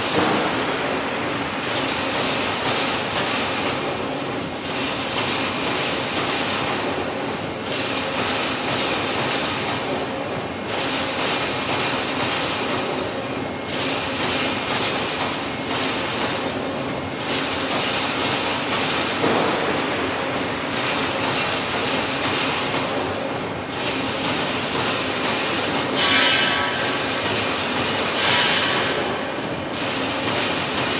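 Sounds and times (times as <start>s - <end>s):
machine metallic clatter: 0.0s - 30.9s.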